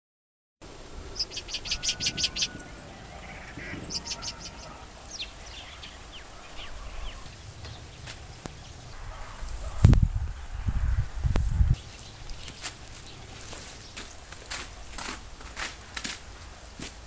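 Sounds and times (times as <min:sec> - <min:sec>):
birds chattering: 0:01.1 - 0:14.9.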